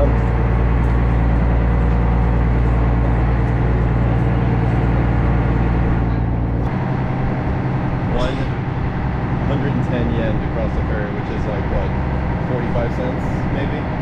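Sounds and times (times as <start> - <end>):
ferry engine drone: 0.0 - 14.0.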